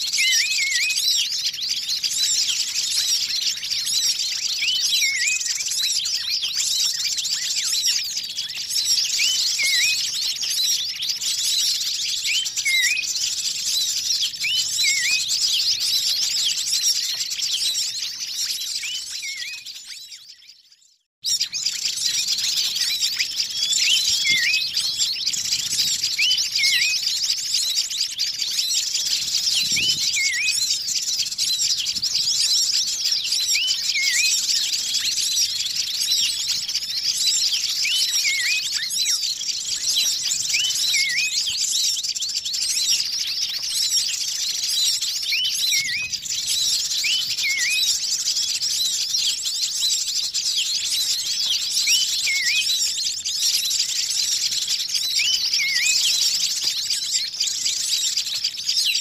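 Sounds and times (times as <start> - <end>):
songbirds chirping and twittering: 0.0 - 59.0.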